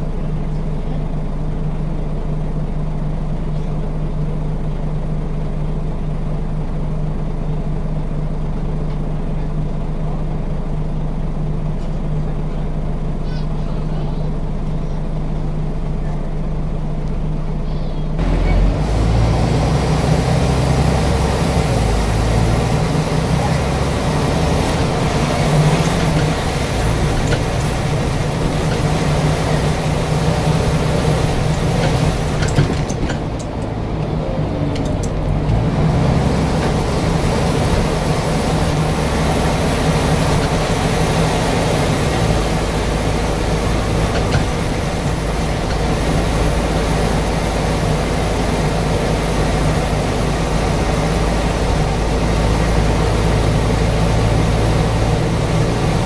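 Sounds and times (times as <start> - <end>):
bus diesel engine drone: 0.0 - 56.0
road and cabin noise: 0.0 - 56.0.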